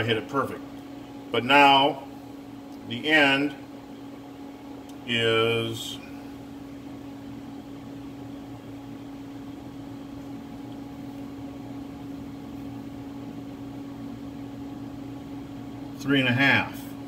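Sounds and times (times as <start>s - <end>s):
machine hum with fan hiss: 0.0s - 17.0s.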